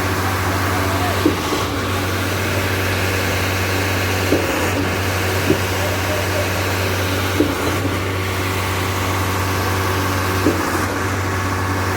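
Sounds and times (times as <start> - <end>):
machinery engine humming: 0.0 - 11.9.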